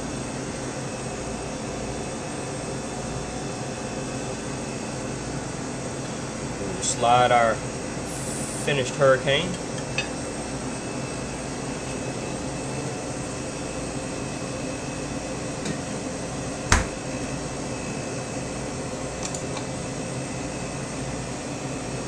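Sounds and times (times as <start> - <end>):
kitchen equipment humming: 1.4 - 22.0.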